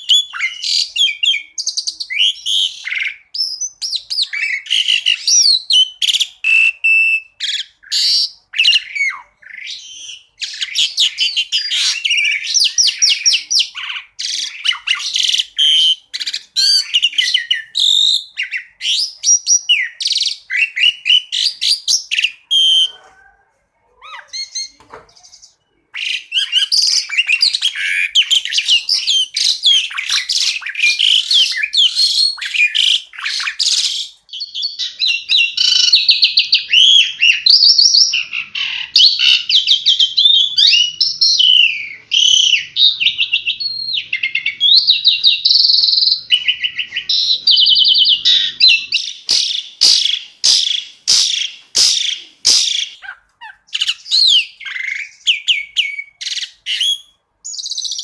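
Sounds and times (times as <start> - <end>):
starling chirps and whistles: 0.0 - 23.2, 24.0 - 58.0.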